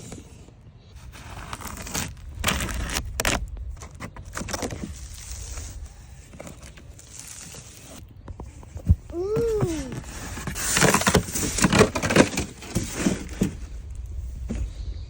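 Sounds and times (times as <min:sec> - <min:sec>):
packaging rustling and crinkling: 0:01.0 - 0:14.7.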